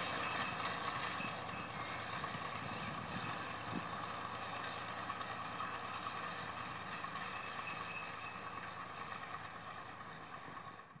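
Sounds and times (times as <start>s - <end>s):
distant diesel tractor running: 0.0s - 11.0s.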